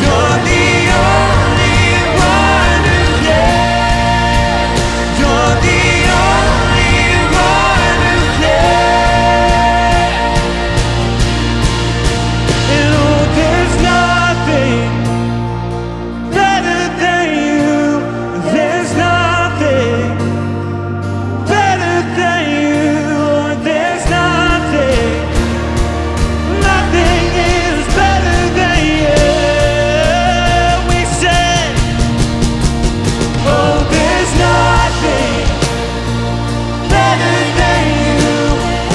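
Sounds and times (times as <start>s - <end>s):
drums: 0.0s - 16.7s, 24.0s - 38.9s
bass: 0.0s - 38.9s
person singing: 0.0s - 38.9s.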